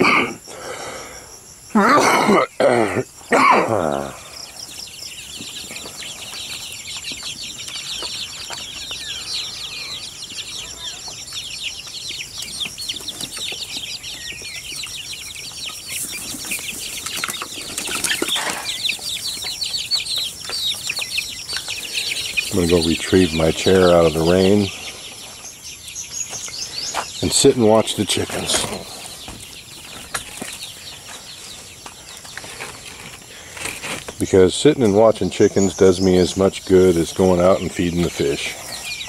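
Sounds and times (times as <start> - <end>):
chickens squawking: 0.0 - 39.0
young chickens cheeping and clucking: 0.0 - 39.0.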